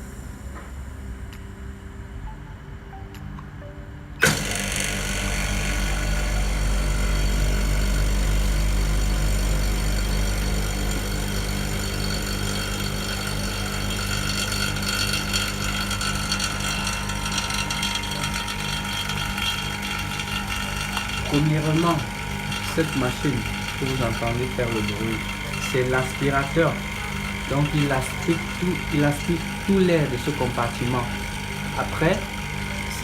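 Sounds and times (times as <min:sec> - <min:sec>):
vacuum pump humming with regular pulse: 0:00.0 - 0:33.0.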